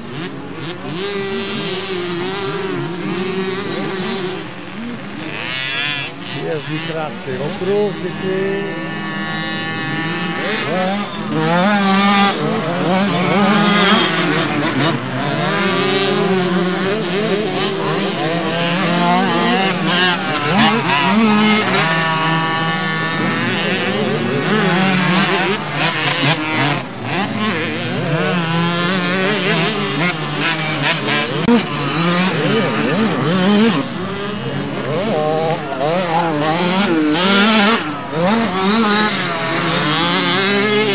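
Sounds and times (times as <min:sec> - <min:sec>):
motocross bikes revving: 0:00.0 - 0:40.9.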